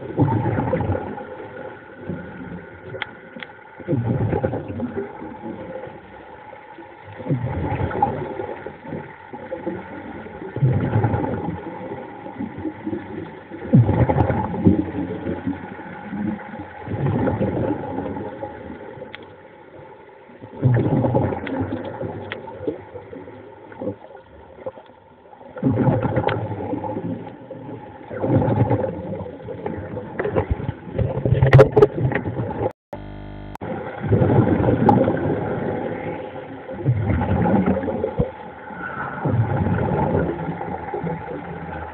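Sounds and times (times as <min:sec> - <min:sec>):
rushing water: 0:00.0 - 0:32.8, 0:33.6 - 0:41.9.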